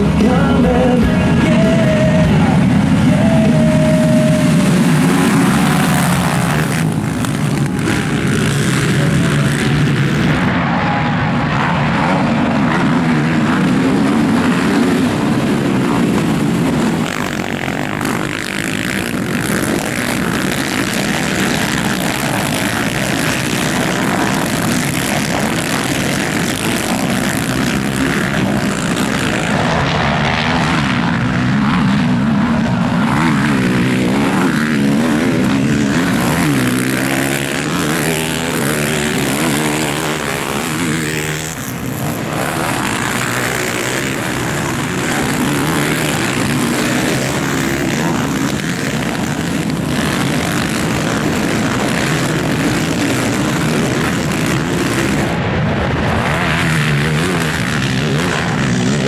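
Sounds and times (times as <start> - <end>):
racing quad bike engines revving: 0.0 - 59.0.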